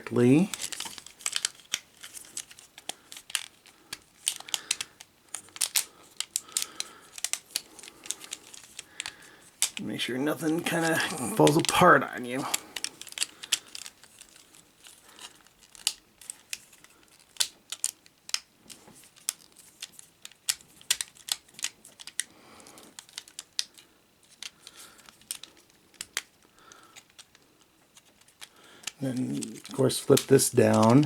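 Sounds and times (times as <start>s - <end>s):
plastic parts clicking and snapping: 0.1s - 9.8s, 10.4s - 31.0s.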